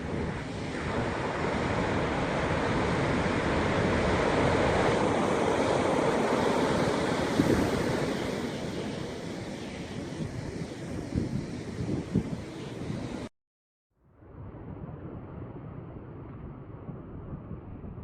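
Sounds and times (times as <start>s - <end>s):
wind buffeting microphone: 0.0s - 13.3s, 14.2s - 18.0s.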